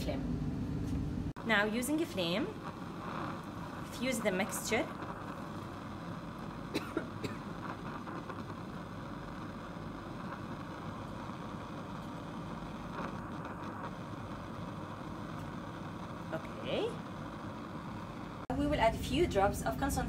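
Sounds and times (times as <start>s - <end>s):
bunsen burner flame rushing: 0.0s - 20.0s.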